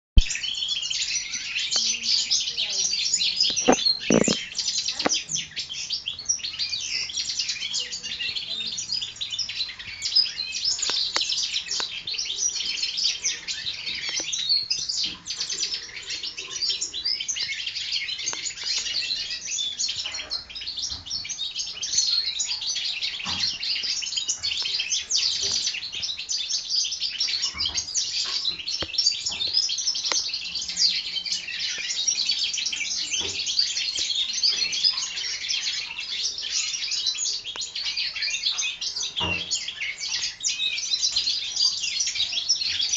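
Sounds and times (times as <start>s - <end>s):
finches twittering: 0.2s - 42.9s.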